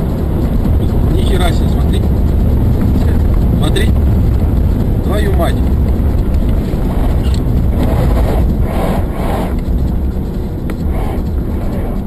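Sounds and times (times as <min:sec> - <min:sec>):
car road and engine rumble: 0:00.0 - 0:12.0
wind buffeting microphone: 0:00.0 - 0:12.0.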